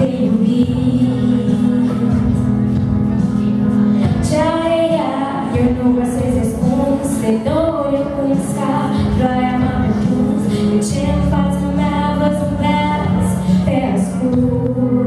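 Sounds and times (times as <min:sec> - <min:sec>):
amplified instrumental backing: 0:00.0 - 0:15.0
girl singing into microphone: 0:00.0 - 0:15.0.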